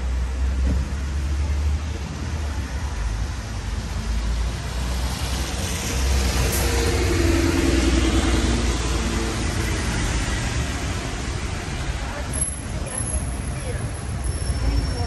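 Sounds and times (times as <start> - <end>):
low traffic rumble: 0.0 - 15.0
passing vehicle engine hum: 0.0 - 15.0.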